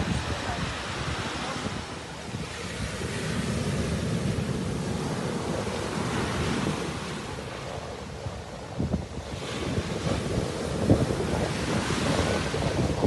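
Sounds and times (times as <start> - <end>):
small waves washing on beach: 0.0 - 13.0
wind rumbling on microphone: 0.0 - 13.0.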